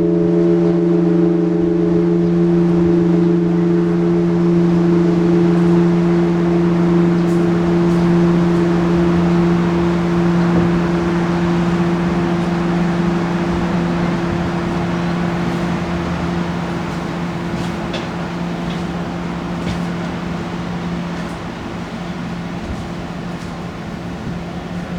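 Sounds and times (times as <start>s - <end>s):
church bell humming: 0.0s - 24.9s
steady background rush: 0.0s - 24.9s.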